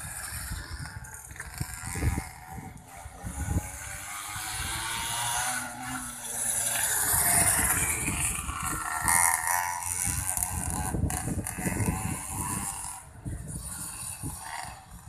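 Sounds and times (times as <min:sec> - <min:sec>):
mini motorbike engines revving: 0:00.0 - 0:15.0.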